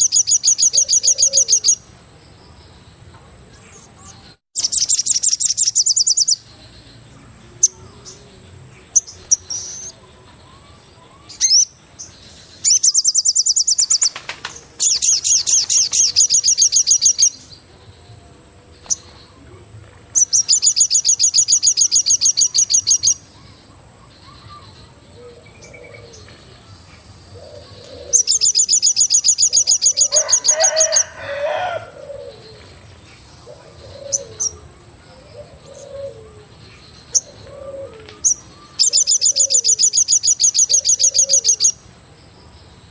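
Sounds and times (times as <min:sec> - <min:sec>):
birds fast high trills: 0:00.0 - 0:01.9, 0:04.6 - 0:06.8, 0:07.6 - 0:17.7, 0:20.1 - 0:26.2, 0:27.3 - 0:32.8, 0:33.4 - 0:41.9.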